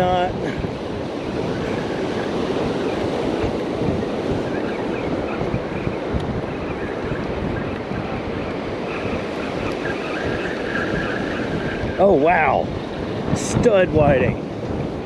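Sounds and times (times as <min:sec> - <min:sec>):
ocean surf washing ashore: 0:00.0 - 0:15.0
wind buffeting microphone: 0:00.0 - 0:15.0.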